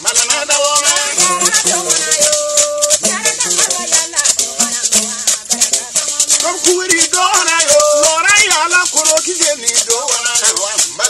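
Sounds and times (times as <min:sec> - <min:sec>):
gourd rattles shaking: 0:00.0 - 0:11.0
man singing: 0:00.0 - 0:11.0
string instrument playing: 0:00.0 - 0:11.0.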